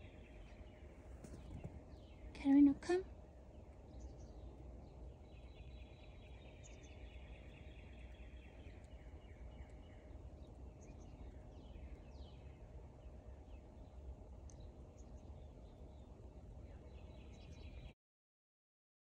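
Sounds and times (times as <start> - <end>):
low steady rumble: 0.0 - 17.9
faint bird song trill: 0.0 - 18.0.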